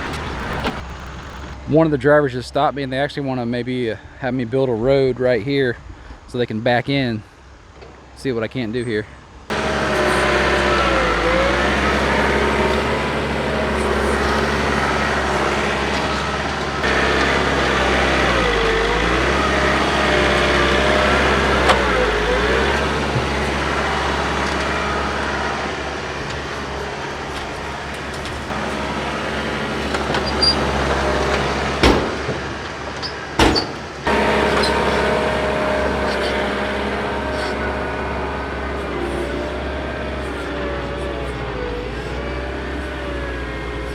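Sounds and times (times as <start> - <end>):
tractor diesel engine under load: 0.0 - 2.2, 9.5 - 43.9.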